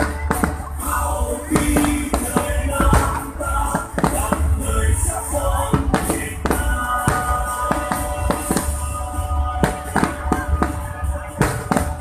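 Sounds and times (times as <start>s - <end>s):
fireworks bursting: 0.0s - 12.0s
loud music: 0.0s - 12.0s.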